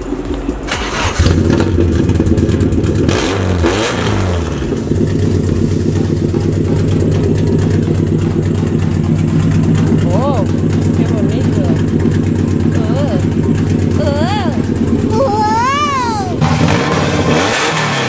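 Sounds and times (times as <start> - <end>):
car engine idling: 0.0 - 18.0
car engine starting and revving: 0.0 - 18.0.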